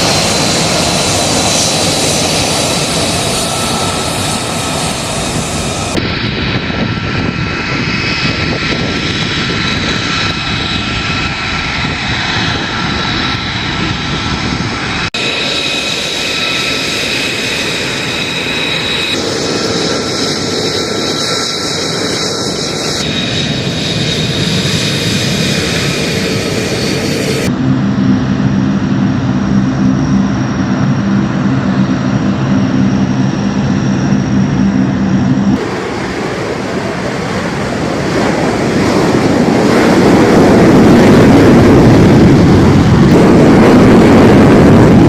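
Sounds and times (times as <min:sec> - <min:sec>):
high turbine whine: 0:00.0 - 0:45.0
jet engines roaring: 0:00.0 - 0:45.0.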